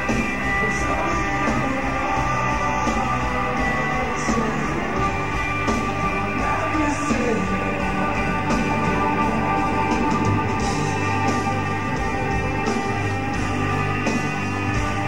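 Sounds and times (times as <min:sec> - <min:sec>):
person singing: 0:00.0 - 0:13.0
live rock band playing: 0:00.0 - 0:15.0.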